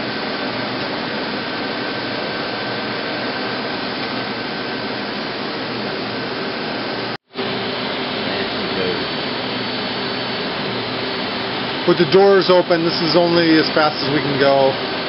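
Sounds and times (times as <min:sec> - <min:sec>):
faint steady whine: 0:00.0 - 0:15.0
lathe machine whirring: 0:00.0 - 0:15.0.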